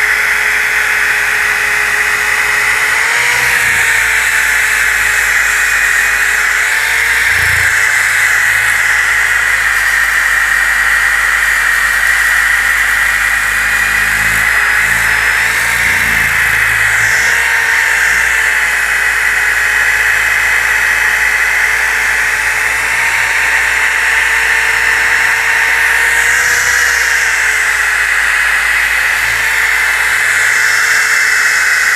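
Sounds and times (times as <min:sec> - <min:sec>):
disc sander motor whine: 0:00.0 - 0:31.9.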